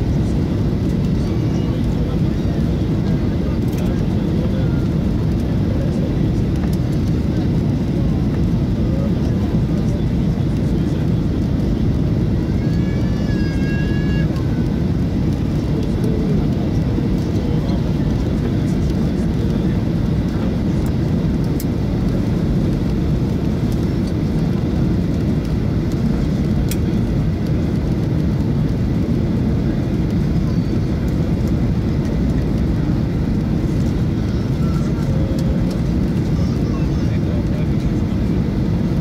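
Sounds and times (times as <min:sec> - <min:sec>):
airplane engines rumbling in cabin: 0:00.0 - 0:39.0.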